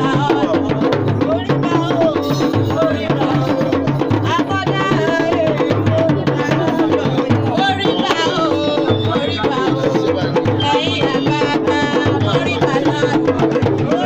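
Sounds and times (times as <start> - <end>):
drums beating: 0.0 - 14.0
people singing: 0.0 - 14.0.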